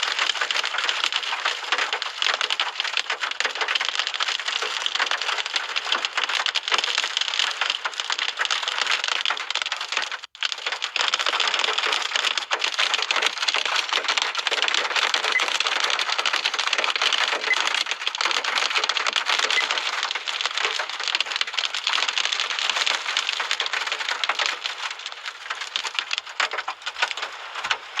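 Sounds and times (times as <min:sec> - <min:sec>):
rain beating against a surface: 0:00.0 - 0:28.0.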